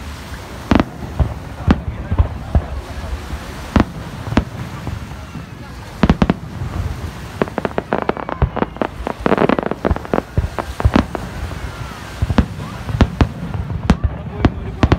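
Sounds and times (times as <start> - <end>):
fireworks bursting with bangs: 0.0 - 14.9
fireworks crackling: 0.0 - 14.9.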